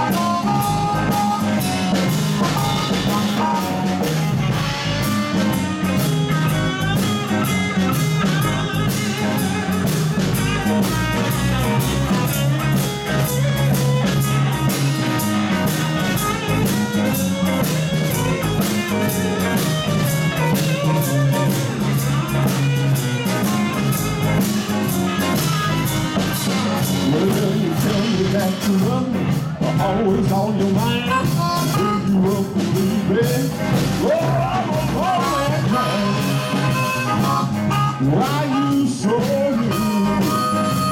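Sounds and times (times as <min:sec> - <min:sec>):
blues harmonica: 0:00.0 - 0:40.9
drum kit beat: 0:00.0 - 0:40.9
electric guitars: 0:00.0 - 0:40.9.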